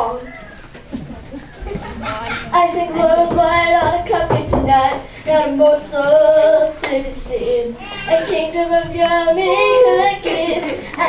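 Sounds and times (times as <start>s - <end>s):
girl singing: 2.1s - 11.0s.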